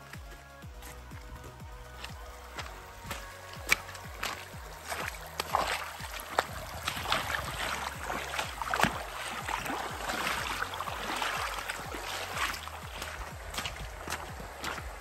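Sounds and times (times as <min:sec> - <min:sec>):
stream rushing: 0:00.0 - 0:15.0
water splashing around wading legs: 0:00.0 - 0:15.0.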